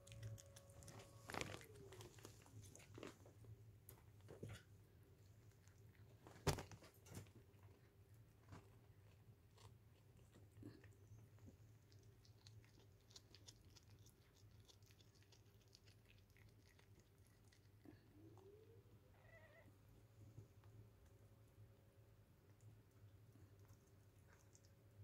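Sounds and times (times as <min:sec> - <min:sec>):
cat chewing and licking: 0:00.0 - 0:18.7, 0:20.7 - 0:25.0.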